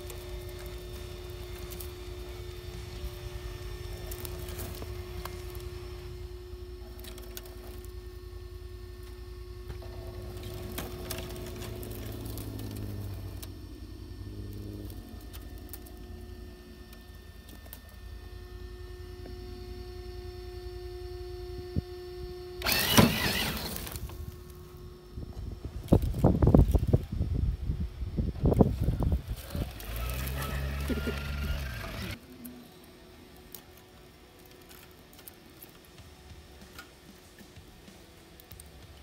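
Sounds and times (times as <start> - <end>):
electric motor whining: 0.0 - 36.7.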